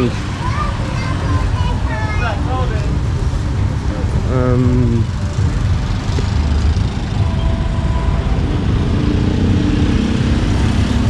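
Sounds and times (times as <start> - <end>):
road traffic engines rumbling: 0.0 - 11.0.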